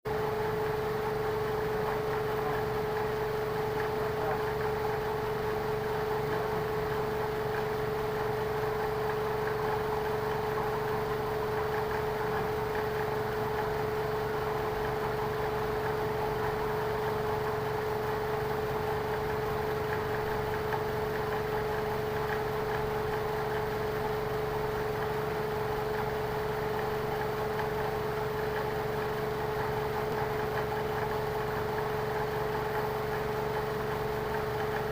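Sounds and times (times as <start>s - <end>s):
car engine idling with whine: 0.1s - 34.9s.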